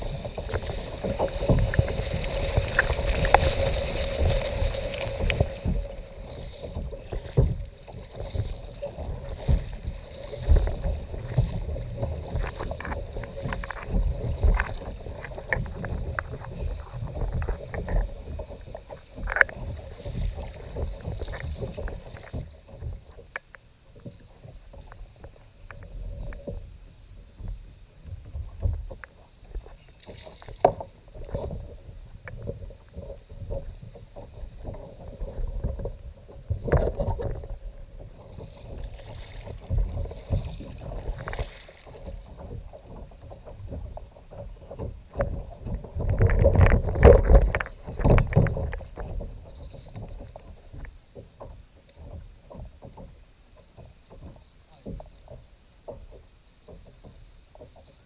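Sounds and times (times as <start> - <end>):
water splashing against kayak: 0.0 - 58.0.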